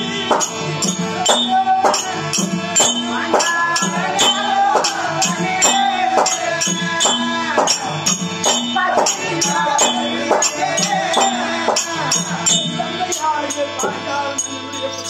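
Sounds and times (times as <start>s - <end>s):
drum beating a rhythm: 0.0s - 15.0s
harmonium holding notes: 0.0s - 15.0s.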